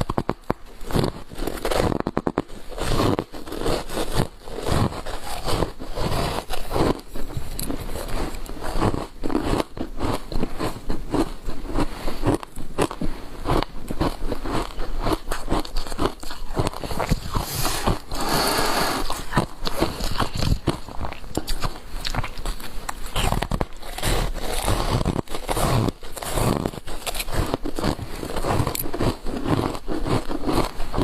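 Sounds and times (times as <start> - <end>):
chewing: 0.0 - 31.0
crunching ice: 0.0 - 31.0.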